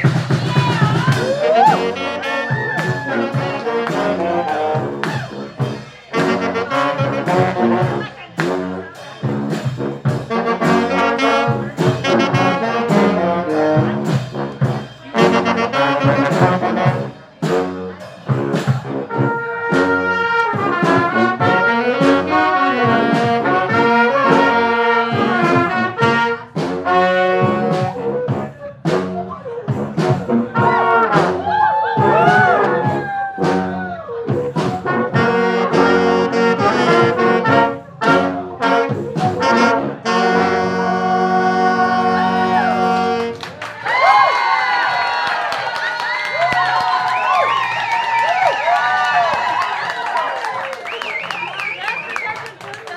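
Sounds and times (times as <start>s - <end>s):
steady drum beat: 0.0s - 43.3s
brass band playing lively tune: 0.0s - 52.9s.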